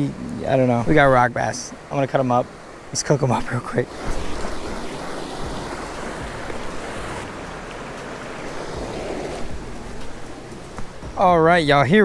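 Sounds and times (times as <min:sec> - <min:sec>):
water running over rocks: 0:00.0 - 0:12.0.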